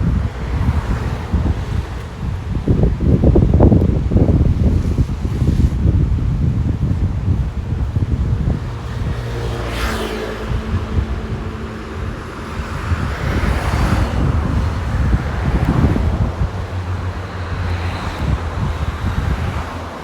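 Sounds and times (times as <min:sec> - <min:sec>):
road traffic passing: 0:00.0 - 0:20.0
wind buffeting microphone: 0:00.0 - 0:20.0.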